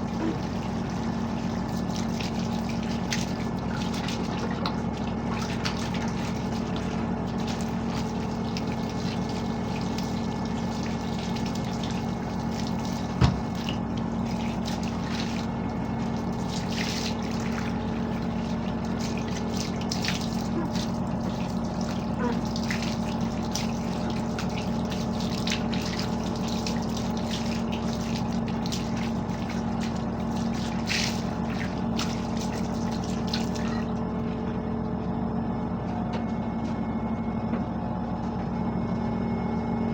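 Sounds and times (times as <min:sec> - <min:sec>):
running water: 0:00.0 - 0:34.0.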